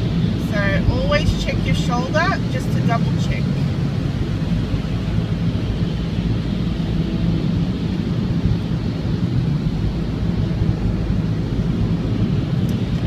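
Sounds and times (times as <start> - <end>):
tyre and engine rumble in car: 0.0 - 13.0.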